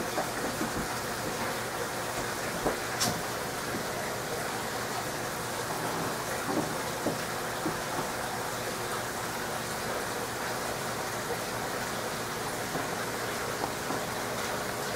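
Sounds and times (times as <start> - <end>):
water hissing through filter: 0.3 - 14.9.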